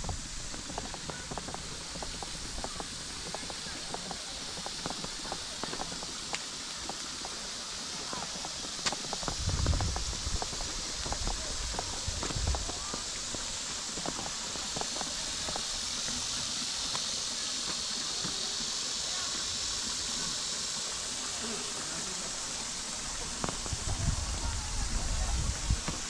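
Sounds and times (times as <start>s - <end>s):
high-pitched outdoor hiss: 0.0s - 26.0s.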